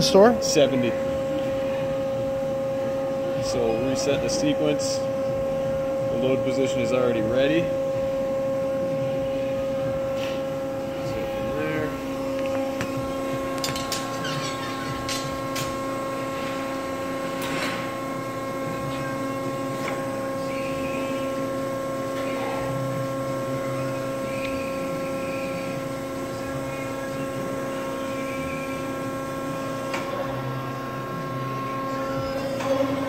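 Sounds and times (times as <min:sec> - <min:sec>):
hydraulic unit humming: 0:00.0 - 0:33.0.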